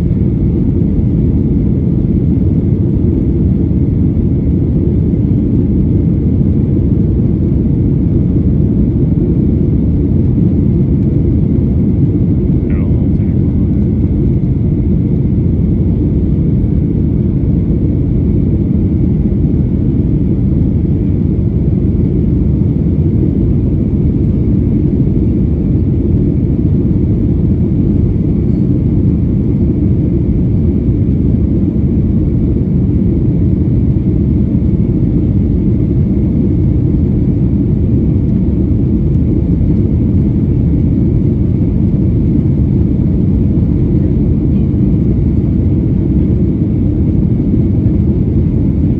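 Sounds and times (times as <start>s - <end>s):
faint steady whine: 0.0s - 48.9s
jet engine rumble in cabin: 0.0s - 48.9s.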